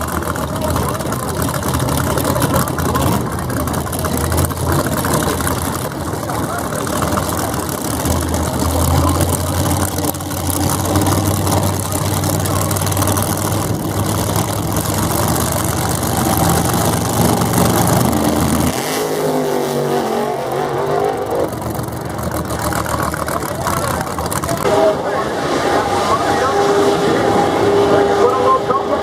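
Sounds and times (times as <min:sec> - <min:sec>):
drag race car engine rumbling: 0:00.0 - 0:29.0.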